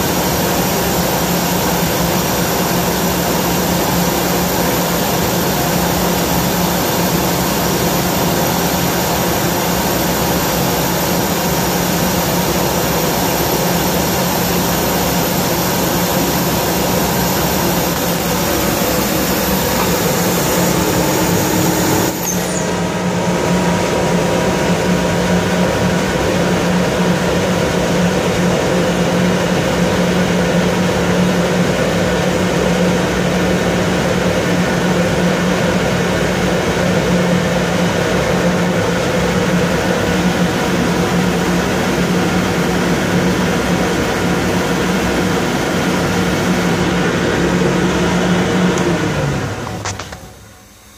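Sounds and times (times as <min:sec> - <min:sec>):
air compressor droning: 0:00.0 - 0:50.9.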